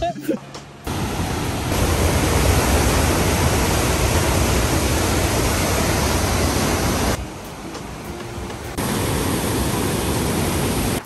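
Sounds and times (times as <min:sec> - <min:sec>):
waterfall rushing: 0:00.9 - 0:11.0.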